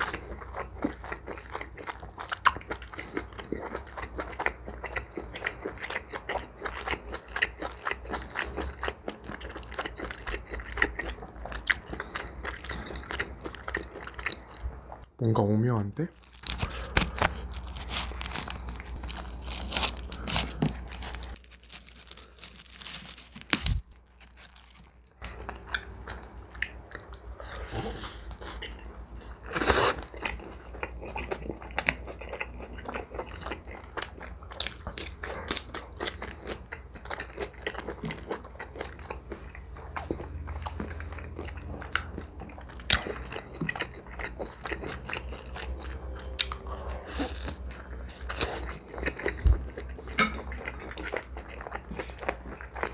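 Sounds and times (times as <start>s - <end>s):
pizza crust crunching while chewed: 0.0s - 15.0s, 16.1s - 52.9s.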